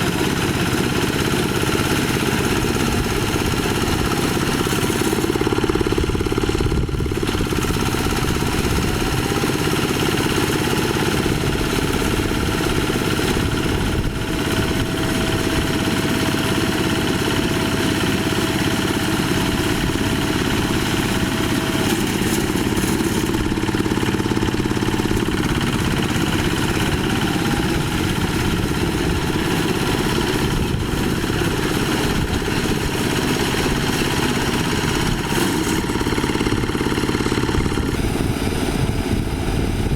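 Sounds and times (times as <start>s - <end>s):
small diesel engine running: 0.0s - 39.9s.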